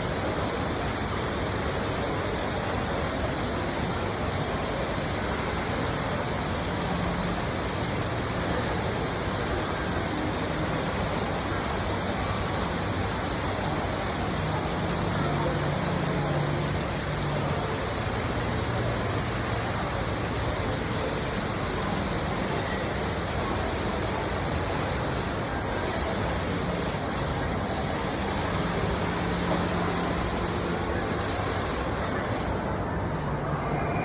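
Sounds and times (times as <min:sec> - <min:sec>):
waterfall rushing into pool: 0:00.0 - 0:32.4.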